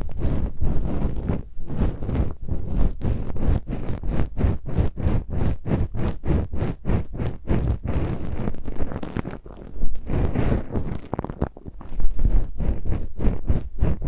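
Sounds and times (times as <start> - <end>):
ear pick scratching inside ear: 0.0 - 14.0.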